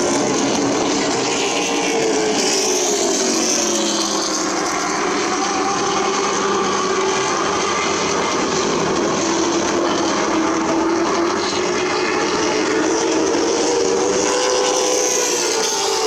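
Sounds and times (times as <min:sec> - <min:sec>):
stock car engines running hard: 0:00.0 - 0:16.0.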